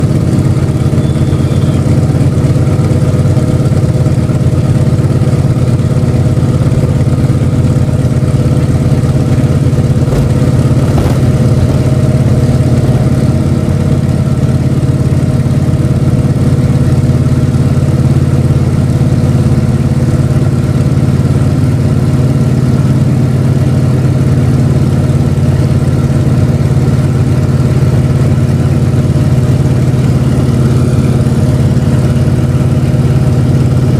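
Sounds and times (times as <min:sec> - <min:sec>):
radial aircraft engine and propeller: 0:00.0 - 0:33.9.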